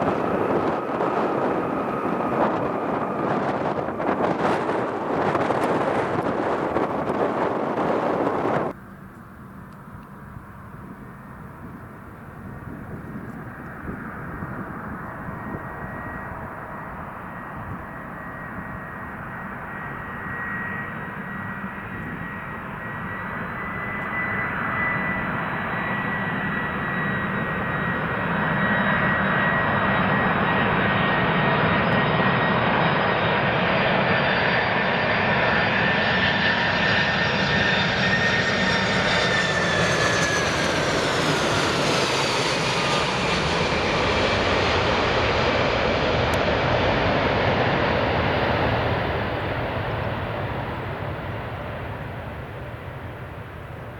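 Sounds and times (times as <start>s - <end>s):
jet engines on approach: 0.0s - 53.9s.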